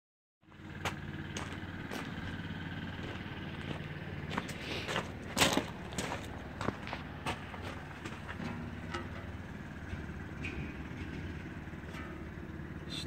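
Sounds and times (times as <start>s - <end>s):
wheel loader diesel engine idling: 0.4s - 13.0s.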